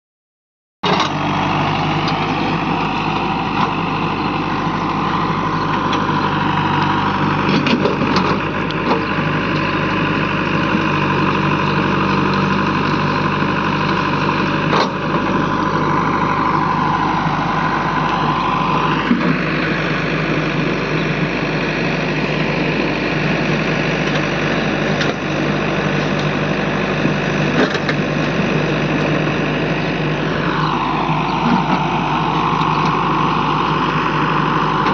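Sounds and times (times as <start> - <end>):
diesel engines running: 0.8 - 34.9.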